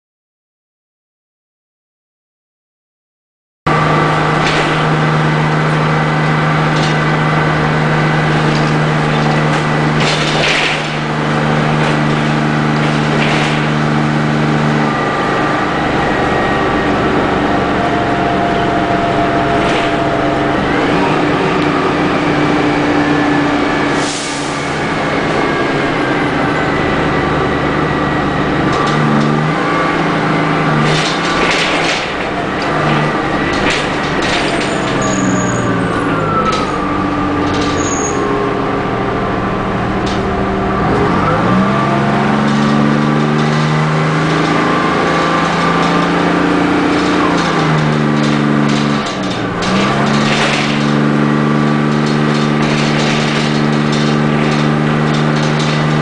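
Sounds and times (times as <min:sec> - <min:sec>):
diesel bus engine running: 0:03.7 - 0:56.0.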